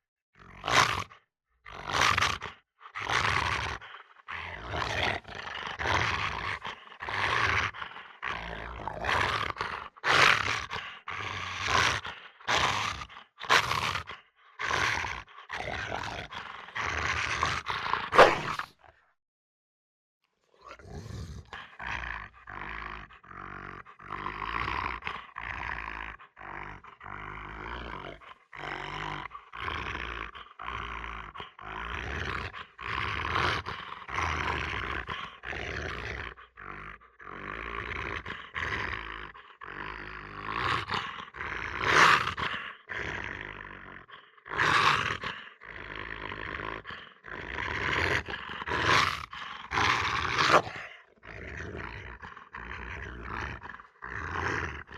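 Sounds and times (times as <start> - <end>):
dog growling and snarling: 0.4 - 19.1, 20.5 - 54.9.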